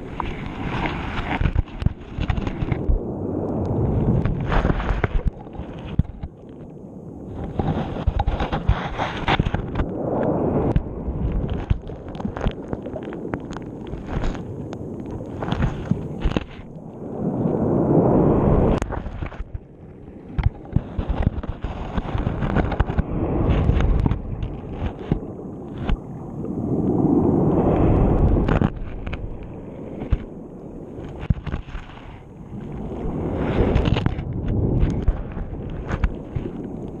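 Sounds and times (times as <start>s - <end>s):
camera knocking and scraping seabed: 0.0s - 17.6s, 18.4s - 37.0s
underwater rushing surge: 0.0s - 37.0s.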